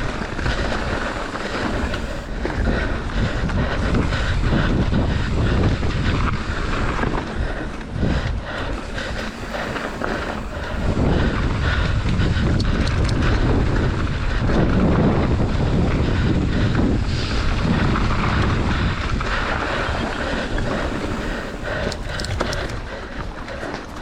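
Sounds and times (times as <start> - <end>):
bike rattling: 0.0 - 24.0
tyres rumbling over trail: 0.0 - 24.0
wind buffeting microphone: 0.0 - 24.0.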